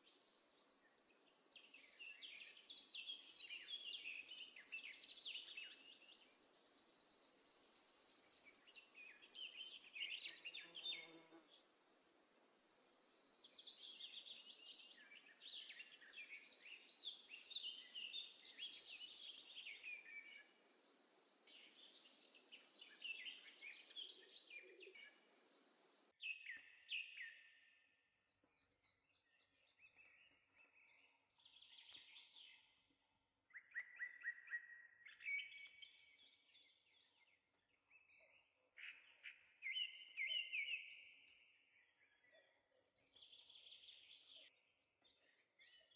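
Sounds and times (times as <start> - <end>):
small birds chirping and trilling: 0.0 - 11.6, 12.4 - 45.9.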